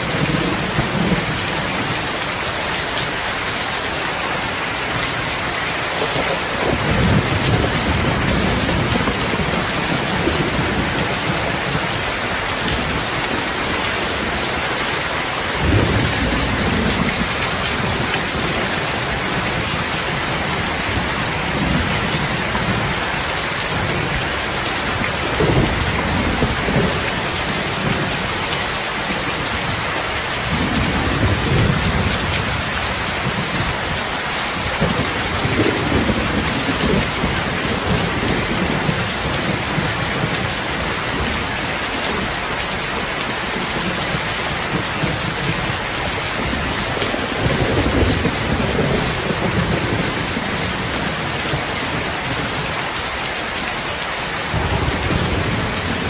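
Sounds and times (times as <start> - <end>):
thunder rumbling: 0.0 - 3.3, 4.3 - 52.7, 54.5 - 56.0
heavy rain pouring: 0.0 - 56.0.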